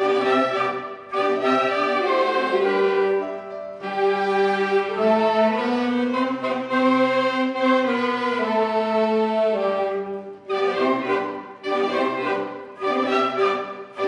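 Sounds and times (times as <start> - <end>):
wind band playing slow chords: 0.0 - 14.0.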